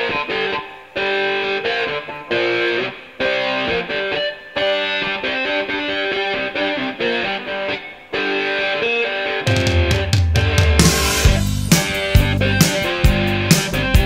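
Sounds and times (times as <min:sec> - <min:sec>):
electric guitar rock music: 0:00.0 - 0:14.0.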